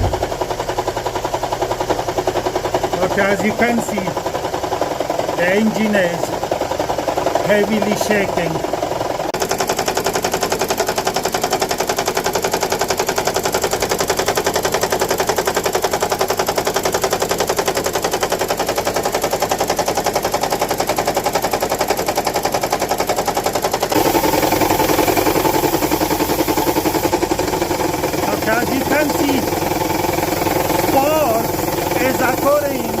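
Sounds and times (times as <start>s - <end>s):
car engine running rough: 0.0s - 33.0s.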